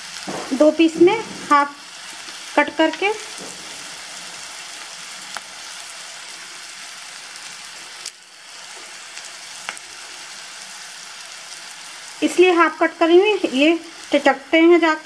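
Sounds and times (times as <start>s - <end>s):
onions sizzling in hot fat: 0.0s - 15.0s.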